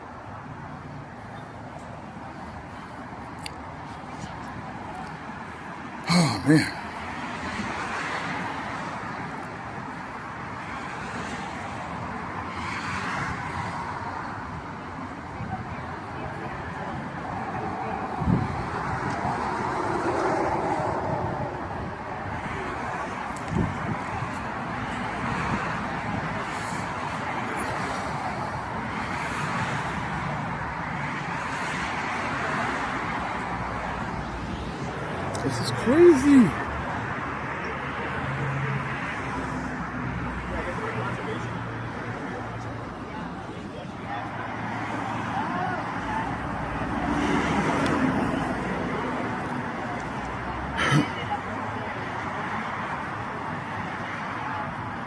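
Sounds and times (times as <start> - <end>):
road traffic noise: 0.0 - 55.0.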